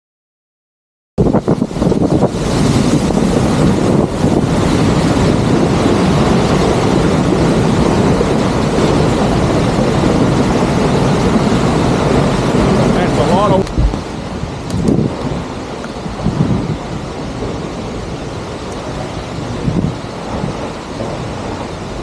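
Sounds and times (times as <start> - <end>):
waterfall rushing: 1.2 - 22.0
wind buffeting microphone: 1.2 - 22.0.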